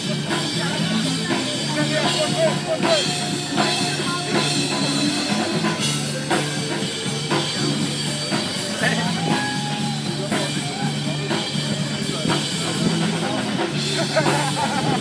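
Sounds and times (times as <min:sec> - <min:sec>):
rock music with drums: 0:00.0 - 0:15.0.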